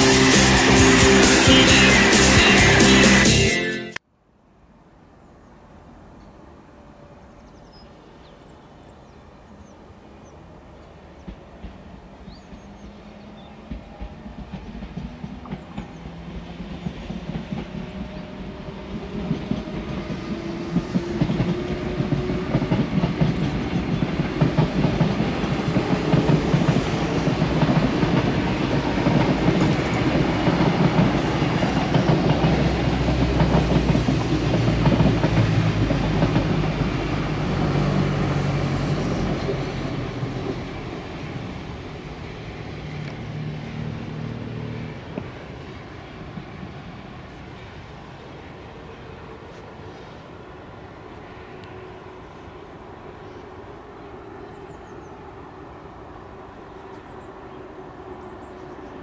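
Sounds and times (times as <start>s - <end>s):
electric train rumble and clatter: 0.0s - 3.5s, 10.2s - 59.0s.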